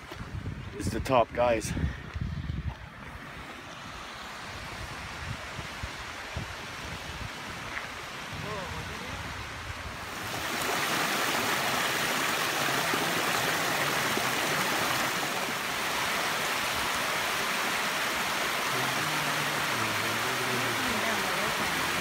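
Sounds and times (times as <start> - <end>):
water rushing over rocks: 3.3 - 22.0.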